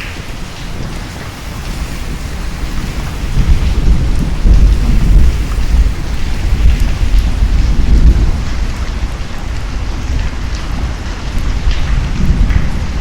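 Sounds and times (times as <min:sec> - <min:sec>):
deep rumble of thunder: 0:00.0 - 0:13.0
steady rain: 0:00.0 - 0:13.0.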